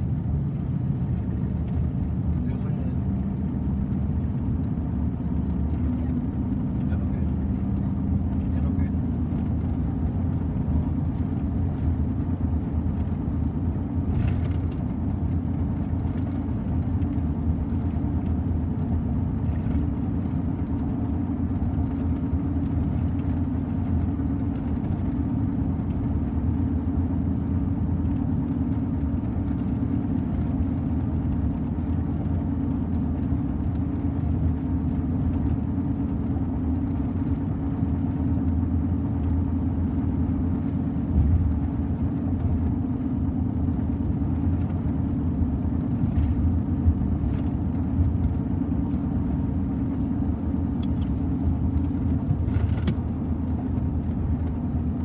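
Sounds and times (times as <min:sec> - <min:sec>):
road and engine noise in car: 0:00.0 - 0:55.0.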